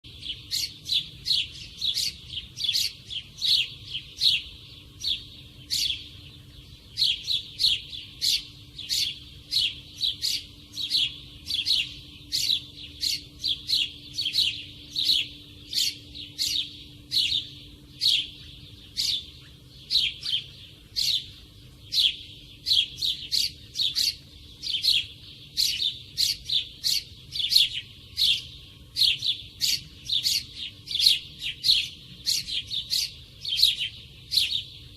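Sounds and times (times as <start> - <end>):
sparrow chirping: 0.0 - 34.9.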